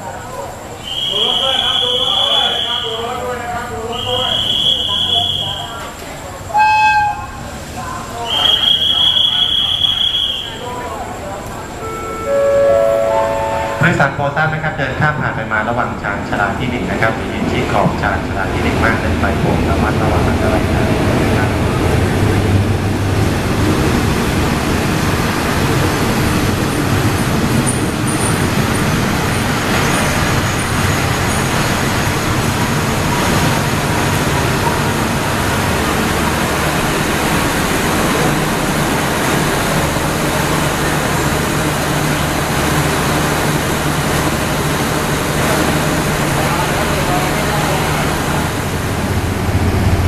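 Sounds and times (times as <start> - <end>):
diesel train engine drone: 0.0 - 50.0.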